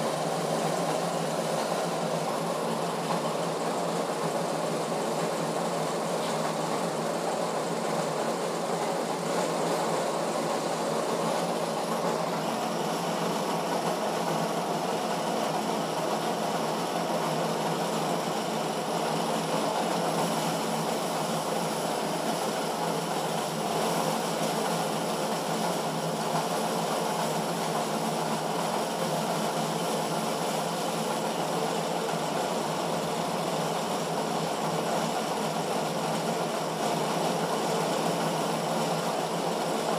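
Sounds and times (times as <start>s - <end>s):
test bench machine running: 0.0s - 39.9s.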